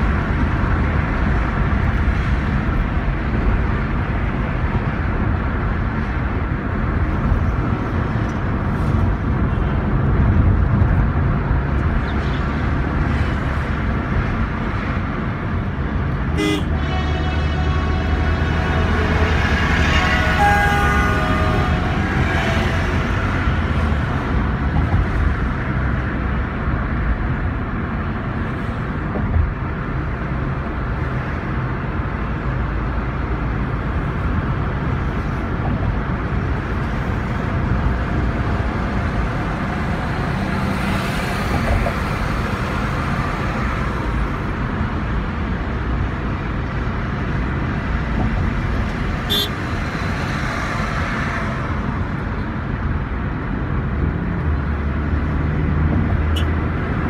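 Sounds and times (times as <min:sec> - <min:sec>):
surrounding traffic: 0:00.0 - 0:57.0.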